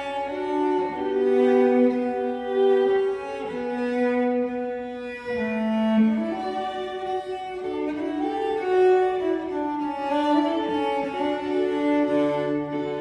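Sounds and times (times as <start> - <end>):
cello playing a tune: 0.0 - 13.0
fiddle playing a tune: 0.0 - 13.0.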